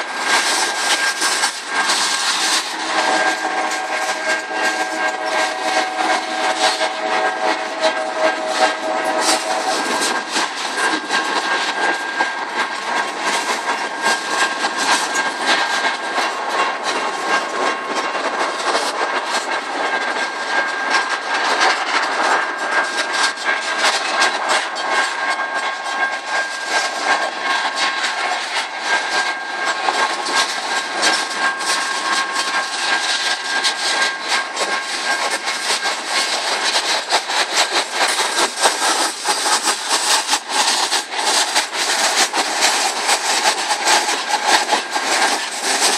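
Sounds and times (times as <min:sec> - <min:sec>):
train wheels clacking over rails: 0:00.0 - 0:45.9.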